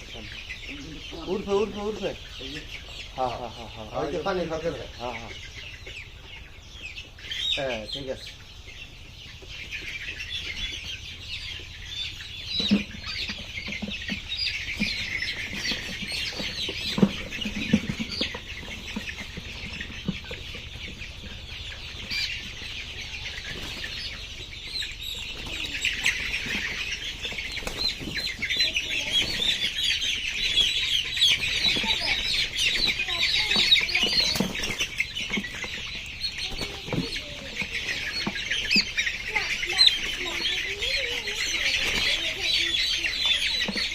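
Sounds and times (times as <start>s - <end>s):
hens clucking: 0.0s - 43.9s.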